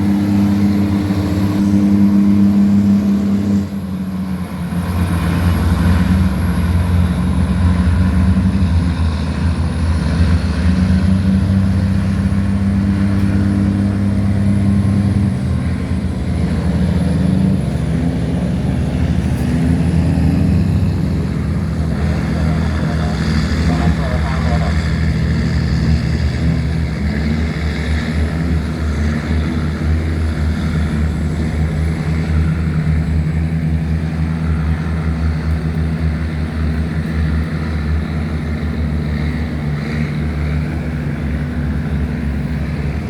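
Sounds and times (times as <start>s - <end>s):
diesel engine low drone: 0.0s - 43.0s.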